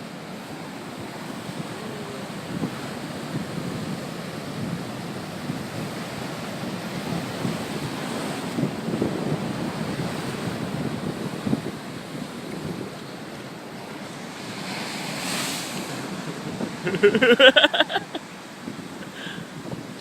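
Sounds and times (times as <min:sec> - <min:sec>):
rushing water: 0:00.0 - 0:20.0
wind buffeting microphone: 0:00.5 - 0:20.0.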